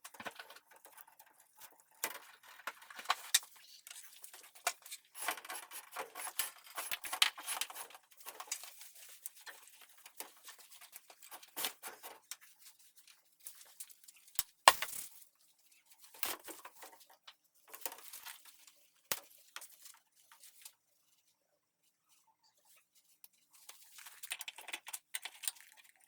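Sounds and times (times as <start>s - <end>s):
rustling and scraping: 0.1s - 21.2s.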